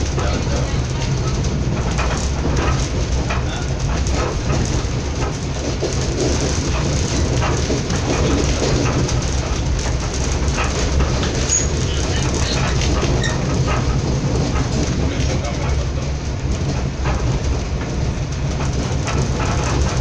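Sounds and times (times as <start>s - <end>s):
train rumble inside carriage: 0.0s - 20.0s
wheels clicking on track: 0.0s - 20.0s.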